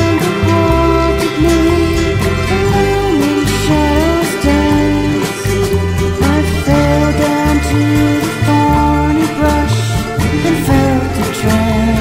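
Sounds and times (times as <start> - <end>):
background song: 0.0 - 12.0.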